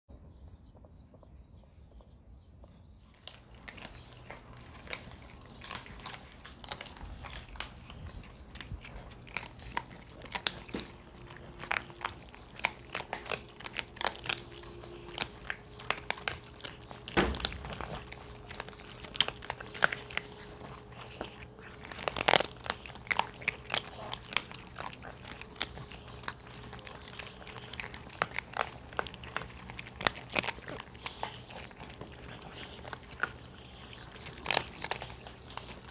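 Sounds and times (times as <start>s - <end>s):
cats crunching dry kibble: 2.6s - 35.9s.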